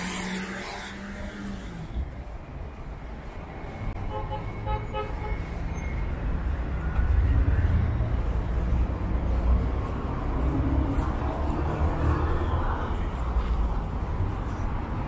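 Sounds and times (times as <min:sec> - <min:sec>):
low rumble of passing traffic: 0:00.0 - 0:15.0.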